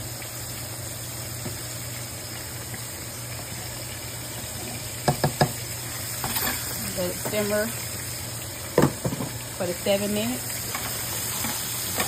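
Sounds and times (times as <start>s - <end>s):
meat frying with steady hiss: 0.0s - 12.0s
rice boiling in saucepan: 0.0s - 12.0s.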